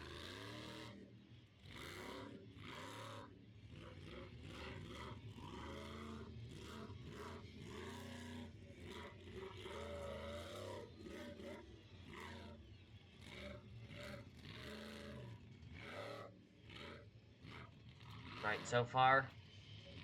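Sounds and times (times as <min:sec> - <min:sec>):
monster truck engine revving: 0:00.0 - 0:19.2.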